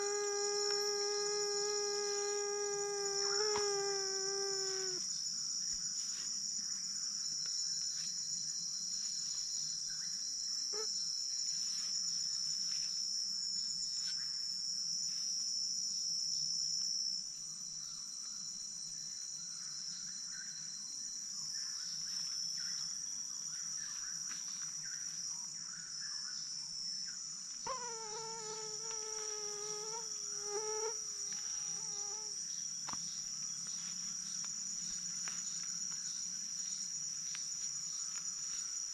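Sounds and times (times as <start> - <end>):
crickets and insects chirping: 0.0 - 38.9.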